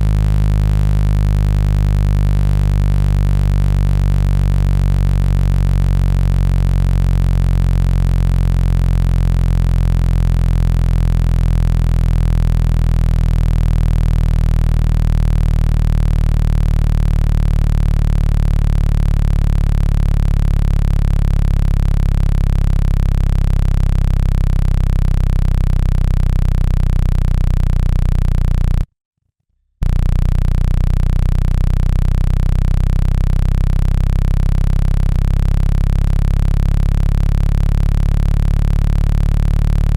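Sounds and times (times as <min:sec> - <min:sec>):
low electronic buzz: 0:00.0 - 0:28.9, 0:29.8 - 0:39.9.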